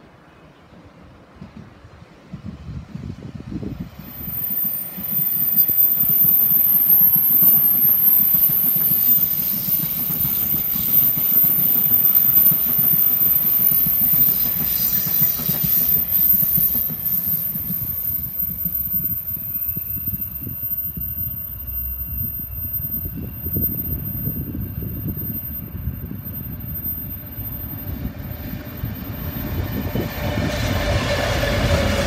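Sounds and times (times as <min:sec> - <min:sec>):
train wheels rumbling on track: 0:00.1 - 0:32.0
high-pitched whine: 0:04.0 - 0:32.0.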